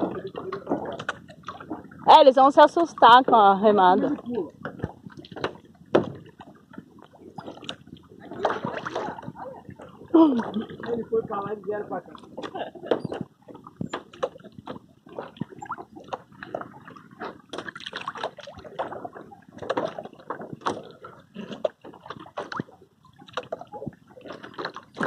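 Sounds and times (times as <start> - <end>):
water splashing around canoe: 0.0 - 25.0.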